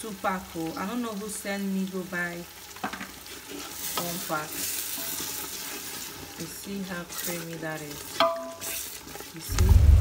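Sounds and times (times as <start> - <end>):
sauce sizzling in a pan: 0.0 - 10.0.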